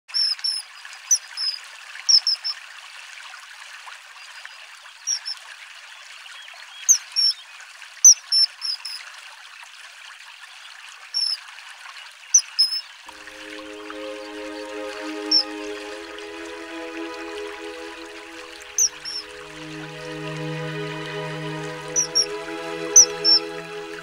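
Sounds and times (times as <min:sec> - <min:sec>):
stream water running: 0:00.2 - 0:24.0.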